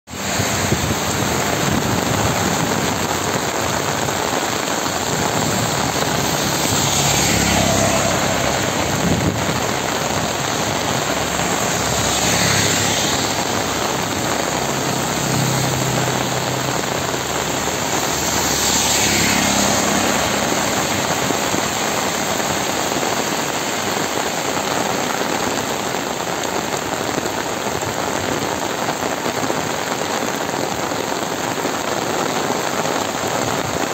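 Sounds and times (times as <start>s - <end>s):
heavy rain: 0.1s - 33.9s.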